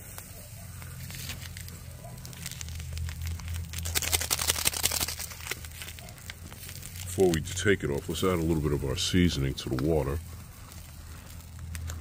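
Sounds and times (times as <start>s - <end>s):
pot boiling: 0.0s - 12.0s
steady low hum: 0.0s - 12.0s
twig fire crackling and popping: 0.0s - 12.0s.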